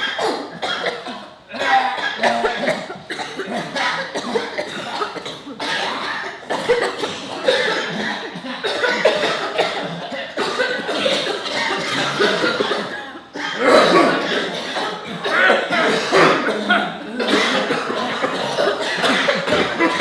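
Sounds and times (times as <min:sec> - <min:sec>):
person coughing: 0:00.0 - 0:20.0.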